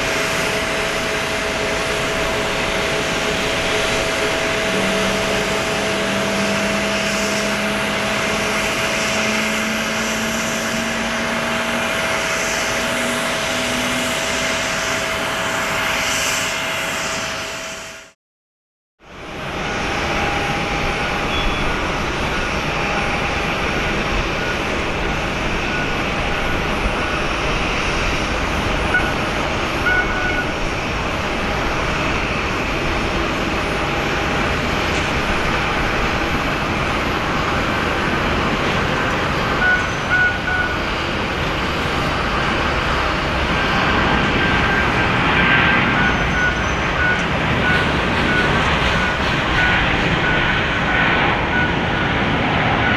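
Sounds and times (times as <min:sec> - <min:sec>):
jet engines rushing: 0:00.0 - 0:18.2, 0:19.1 - 0:52.9.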